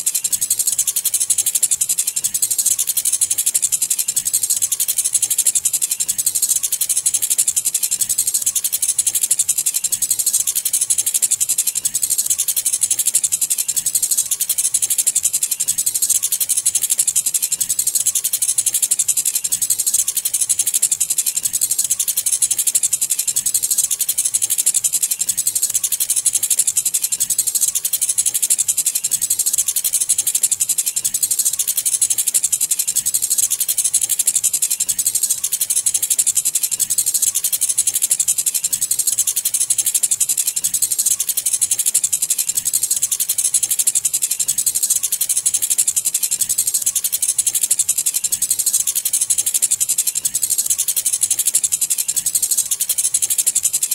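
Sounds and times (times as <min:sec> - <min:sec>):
fast high-pitched rattling: 0:00.0 - 0:53.9.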